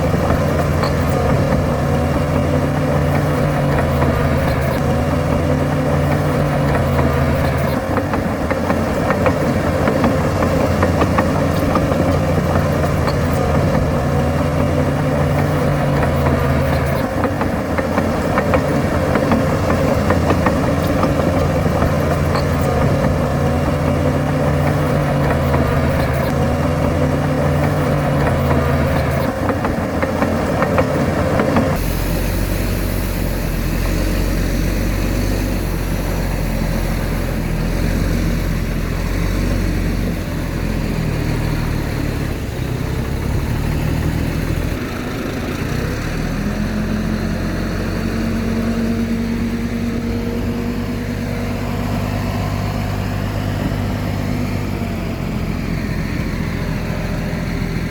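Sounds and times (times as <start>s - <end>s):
heavy machinery diesel engines: 0.0s - 57.9s.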